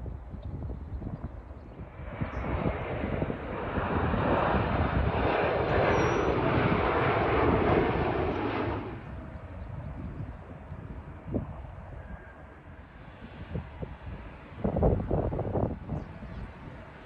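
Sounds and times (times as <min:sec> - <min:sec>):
jet engines overhead: 0:00.0 - 0:17.0.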